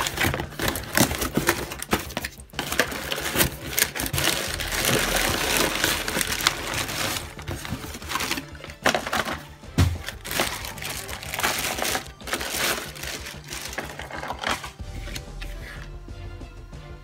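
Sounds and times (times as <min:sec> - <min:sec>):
paper and plastic crinkling: 0:00.0 - 0:15.9.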